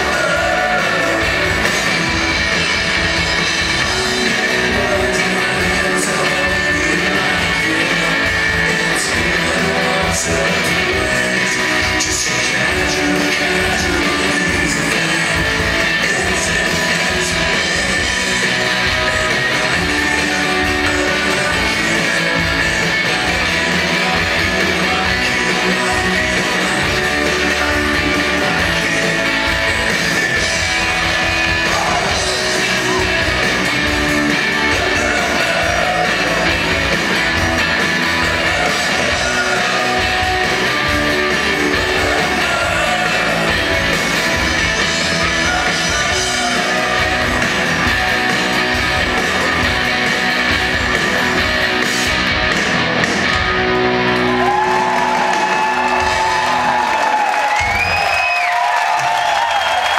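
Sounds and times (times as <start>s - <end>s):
lead vocals singing: 0.0s - 52.2s
live rock band playing: 0.0s - 59.9s.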